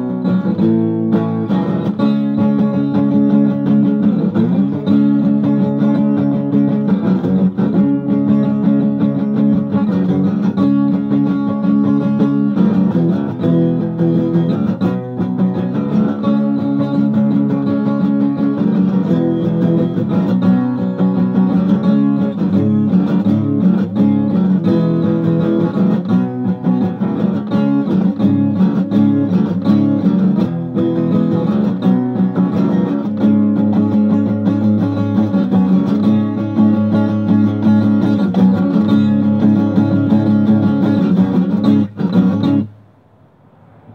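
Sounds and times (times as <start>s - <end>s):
guitar chords strummed and picked: 0.0s - 43.9s.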